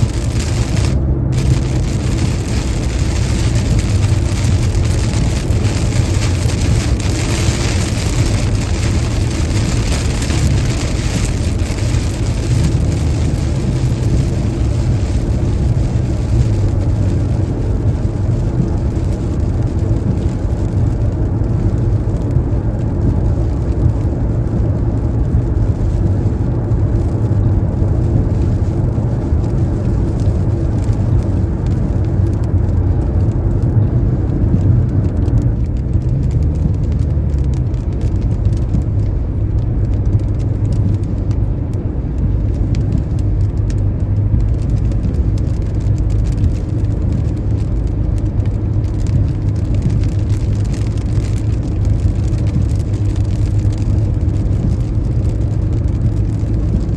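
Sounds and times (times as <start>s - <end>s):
car tyre and engine rumble: 0.0s - 56.9s
rain hiss: 0.0s - 56.9s.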